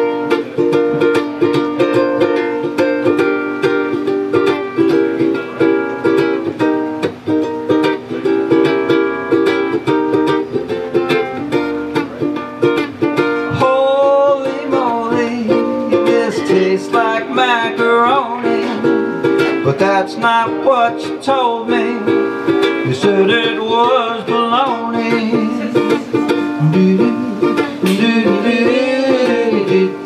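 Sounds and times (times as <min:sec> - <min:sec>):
strummed acoustic string instrument: 0:00.0 - 0:30.0.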